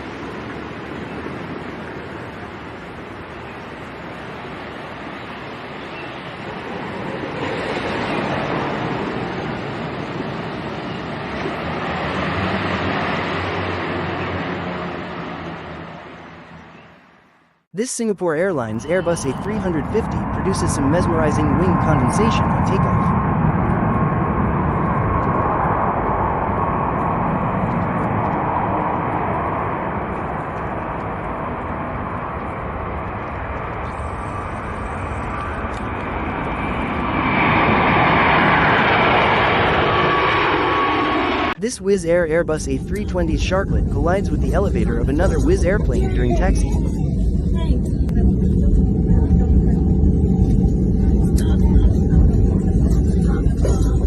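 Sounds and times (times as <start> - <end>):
turboprop engines droning: 0.0 - 17.2, 18.4 - 54.0.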